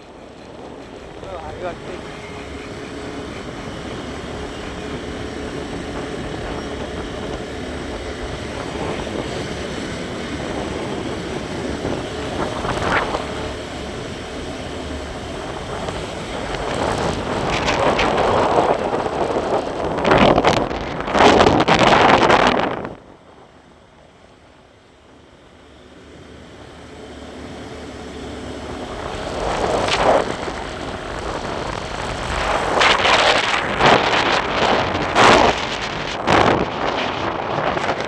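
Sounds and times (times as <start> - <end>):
wind buffeting microphone: 0.0 - 23.6, 26.8 - 38.0
road noise: 0.0 - 38.0
vehicle engine: 0.0 - 38.0.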